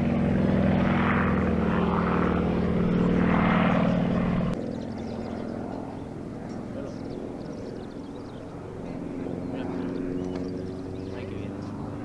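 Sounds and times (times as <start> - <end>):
plane radial engine and propeller: 0.0 - 12.0.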